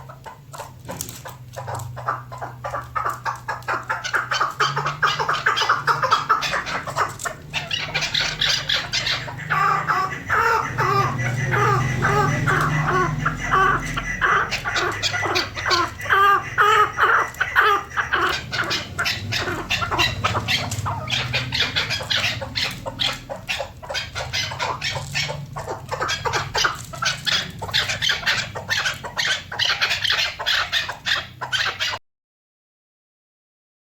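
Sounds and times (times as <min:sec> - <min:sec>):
partridge clucking calls: 0:00.0 - 0:32.0.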